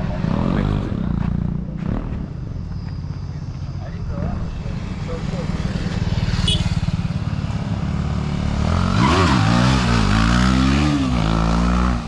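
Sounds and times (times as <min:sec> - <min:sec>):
motorcycle engine revving: 0:00.0 - 0:02.6, 0:04.2 - 0:12.0.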